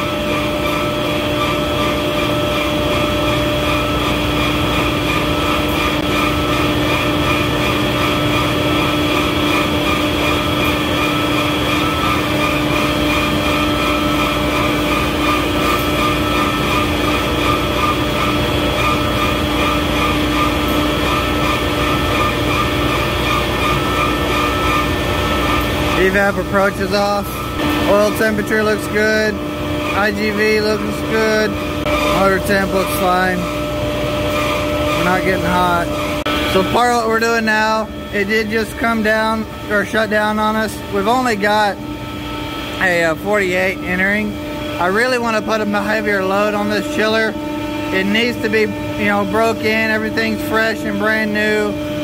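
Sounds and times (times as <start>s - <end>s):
chiller compressor whine: 0.0s - 52.0s.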